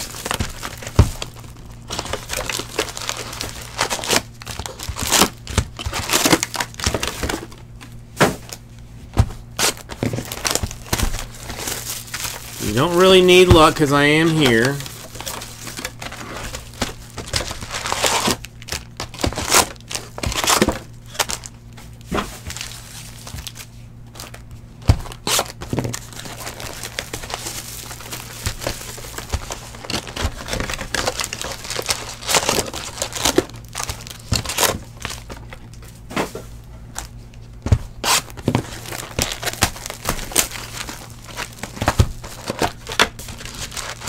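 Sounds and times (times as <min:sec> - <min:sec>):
plastic wrap crinkling and tearing: 0:00.0 - 0:08.7, 0:09.4 - 0:35.9, 0:36.9 - 0:44.0.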